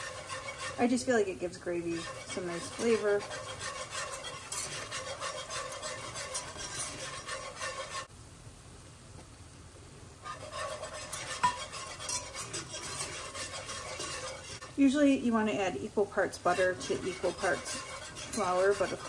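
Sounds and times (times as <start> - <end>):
whisk scraping in a pan: 0.0 - 8.1, 10.2 - 19.0
whisk tapping against pan: 0.0 - 8.1, 10.3 - 14.8, 16.3 - 19.0.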